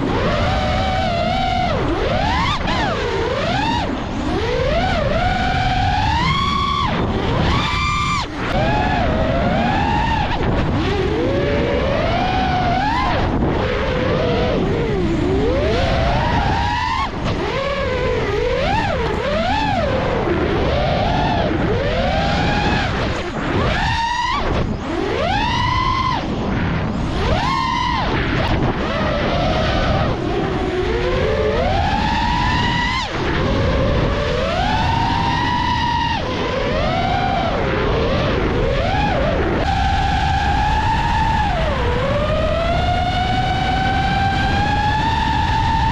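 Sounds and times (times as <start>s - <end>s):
quadcopter motors whining: 0.0s - 45.9s
wind rush: 0.0s - 45.9s.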